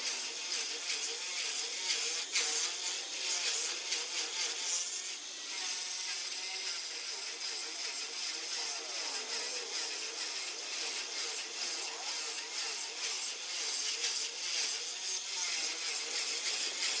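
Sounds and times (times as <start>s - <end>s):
grinder grinding stone: 0.0s - 17.0s.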